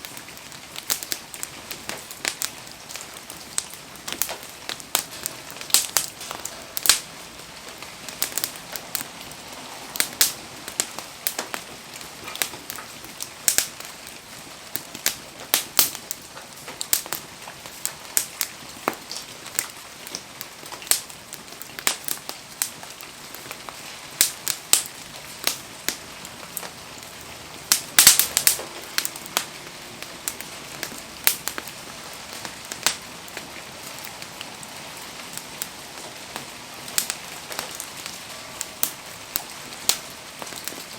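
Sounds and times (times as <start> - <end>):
rain hissing: 0.0 - 40.9
wood fire crackling and popping: 0.0 - 40.9.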